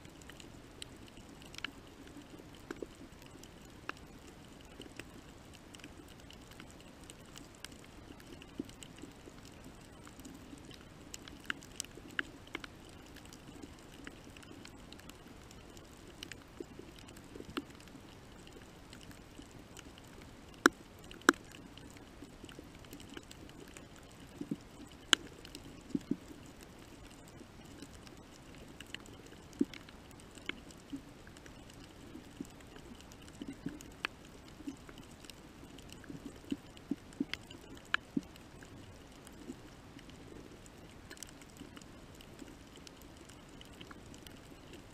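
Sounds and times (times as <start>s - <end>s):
low underwater hum: 0.0s - 44.9s
sharp clicks and pops: 0.1s - 44.9s.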